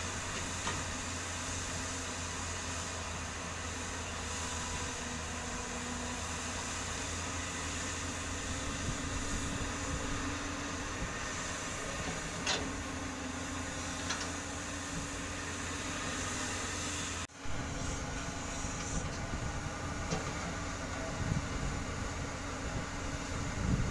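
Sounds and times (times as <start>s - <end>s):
heavy diesel engines running: 0.0s - 23.9s.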